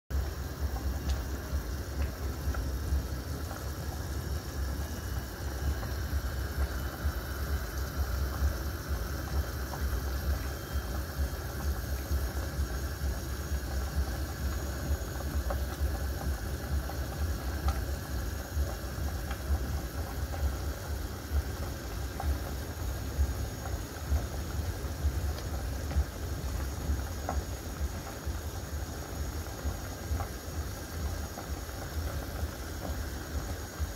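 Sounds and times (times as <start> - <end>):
soup boiling in a pot: 0.1 - 33.9.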